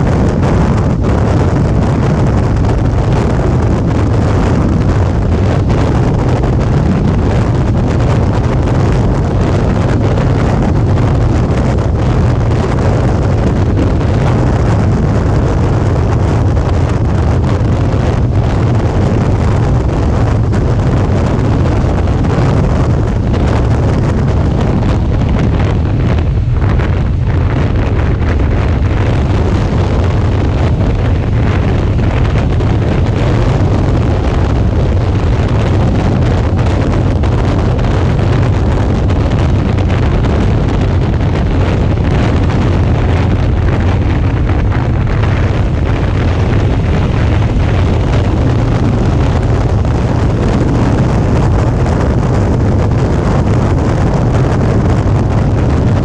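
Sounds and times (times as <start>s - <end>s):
motorcycle engine drone: 0.0s - 56.0s
wind buffeting microphone: 0.0s - 56.0s.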